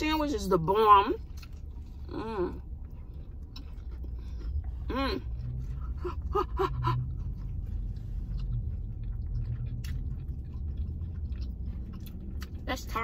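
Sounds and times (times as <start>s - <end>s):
steady low rumble: 0.0s - 13.0s
people chewing food: 1.1s - 13.0s.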